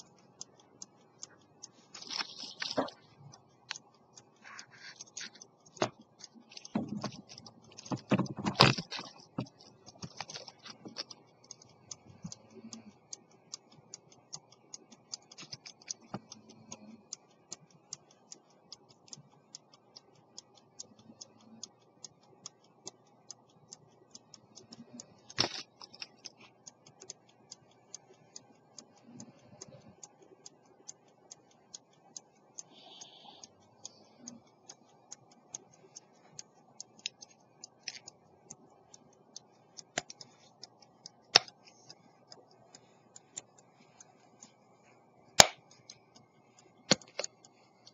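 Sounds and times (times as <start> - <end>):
pocket watch ticking: 0.0 - 47.9.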